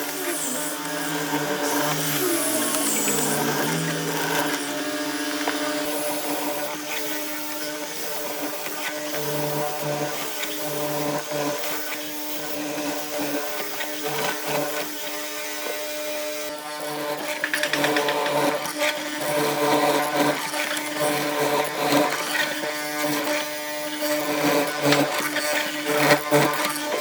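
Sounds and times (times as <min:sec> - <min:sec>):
electric power tool motor: 0:00.0 - 0:27.0.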